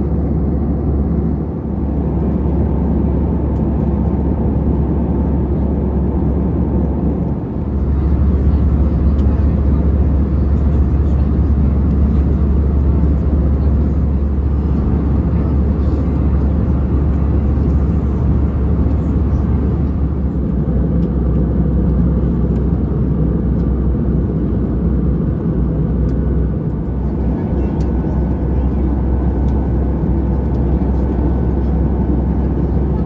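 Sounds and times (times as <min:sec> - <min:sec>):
airplane cabin engine rumble: 0:00.0 - 0:33.0.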